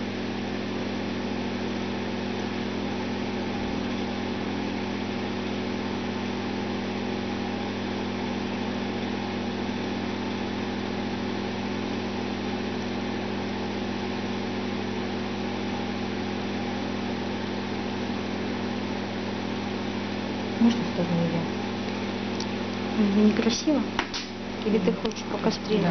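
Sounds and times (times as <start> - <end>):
steady machine hum: 0.0 - 25.9.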